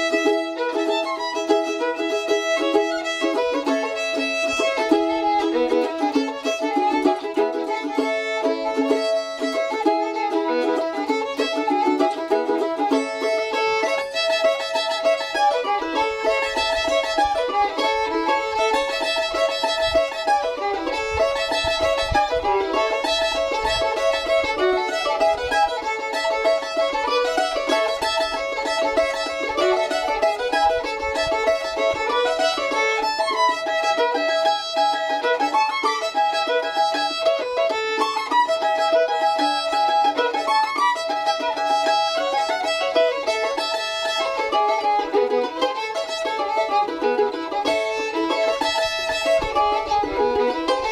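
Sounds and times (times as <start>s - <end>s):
fiddle melody: 0.0s - 50.9s
mandolin playing: 0.0s - 50.9s.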